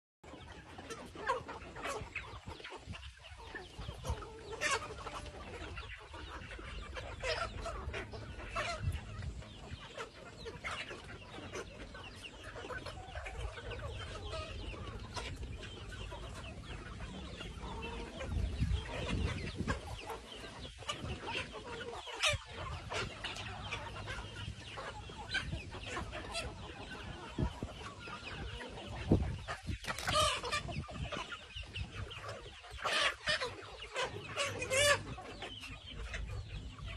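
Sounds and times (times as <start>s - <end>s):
chickens clucking: 0.2s - 36.9s.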